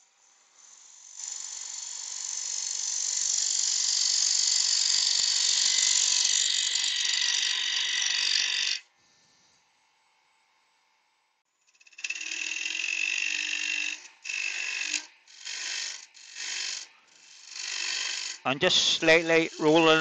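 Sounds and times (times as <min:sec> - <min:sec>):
wood lathe cutting hiss: 0:00.3 - 0:08.8, 0:12.0 - 0:20.0.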